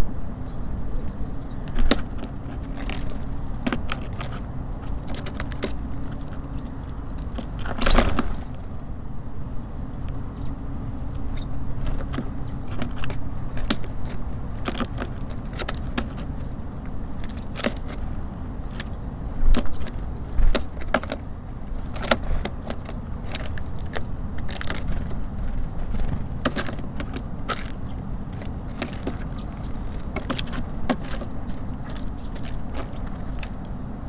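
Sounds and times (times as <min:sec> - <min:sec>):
birds pecking at bird feeder: 0:00.0 - 0:34.0
city traffic rumble: 0:00.0 - 0:34.0.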